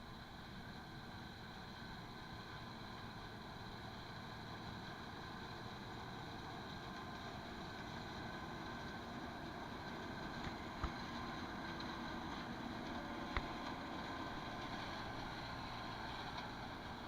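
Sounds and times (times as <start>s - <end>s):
farm machinery engine droning: 0.0s - 17.0s.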